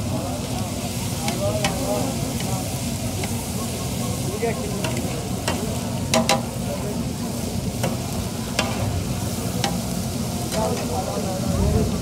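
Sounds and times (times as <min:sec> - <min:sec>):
liver sizzling on a griddle: 0:00.0 - 0:12.0.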